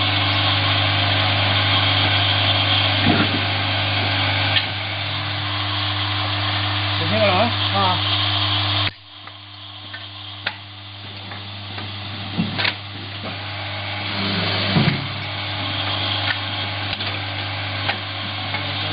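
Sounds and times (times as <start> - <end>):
boring machine humming: 0.0 - 18.9.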